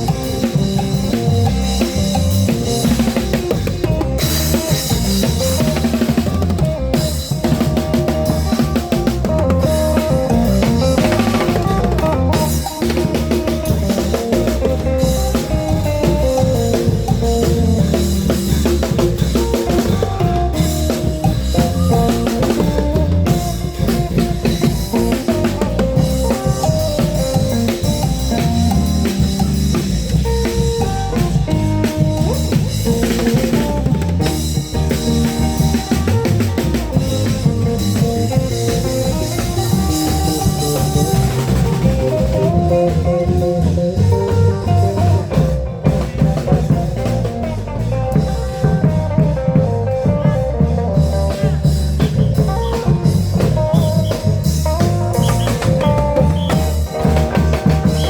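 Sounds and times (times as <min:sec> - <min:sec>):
driving drum rhythm: 0:00.0 - 0:58.0
plucked guitar-like melody: 0:00.0 - 0:58.0.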